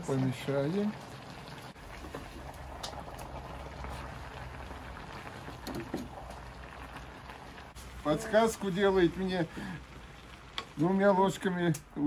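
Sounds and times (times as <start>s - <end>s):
food sizzling in a pan: 0.0s - 11.6s.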